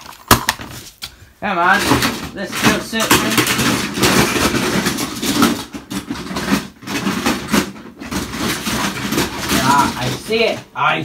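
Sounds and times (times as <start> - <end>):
toy pieces clattering: 1.7 - 10.6.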